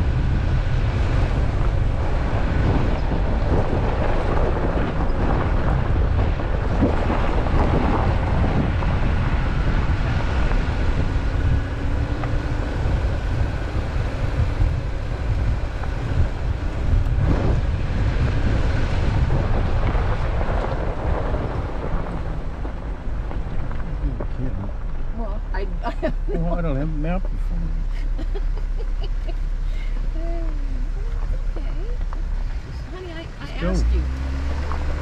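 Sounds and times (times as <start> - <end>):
off-road vehicle rumble: 0.0 - 35.0
wind buffeting microphone: 0.0 - 35.0.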